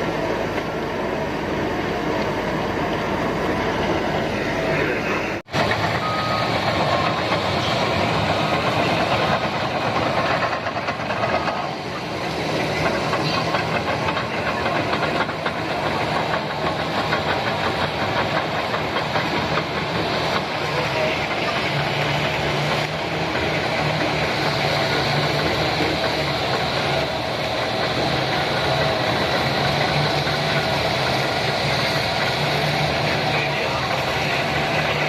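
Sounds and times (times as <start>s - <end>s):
crawler dozer running: 0.0s - 35.0s.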